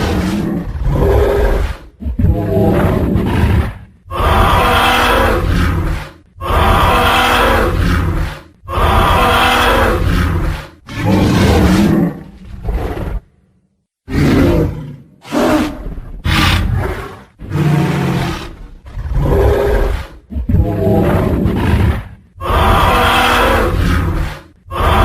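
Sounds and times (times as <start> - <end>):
dinosaur roars: 0.0 - 13.3, 14.1 - 25.0.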